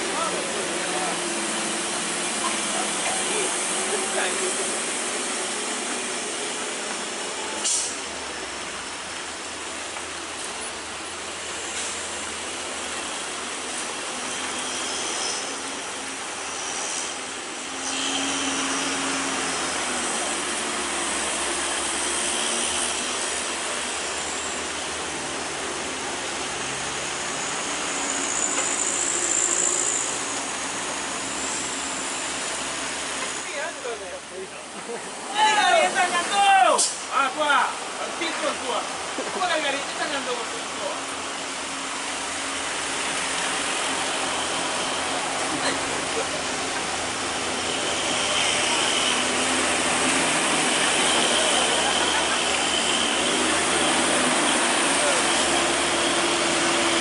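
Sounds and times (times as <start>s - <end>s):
heavy rain on road: 0.0s - 14.9s, 18.4s - 28.8s, 29.4s - 57.0s
truck engines droning: 0.0s - 57.0s.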